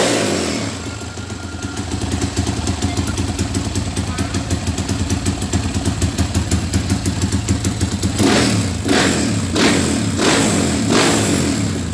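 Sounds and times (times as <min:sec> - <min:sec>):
engine revving: 0:00.0 - 0:04.0, 0:04.6 - 0:11.9
dirt bike engine idling: 0:00.0 - 0:11.9.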